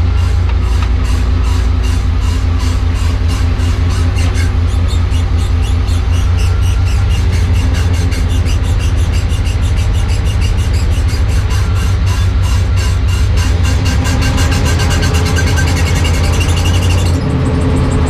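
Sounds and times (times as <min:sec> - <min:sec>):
low drivetrain rumble: 0:00.0 - 0:18.0
universal joint squeaking: 0:00.1 - 0:18.0.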